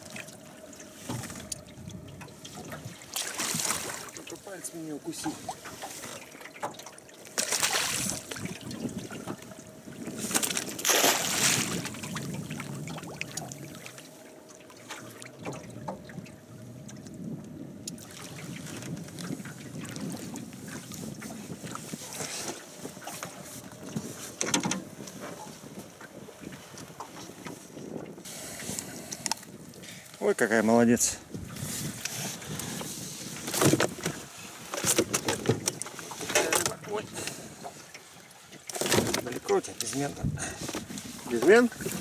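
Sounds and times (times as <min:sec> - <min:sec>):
water splashing around boat: 0:00.0 - 0:42.0.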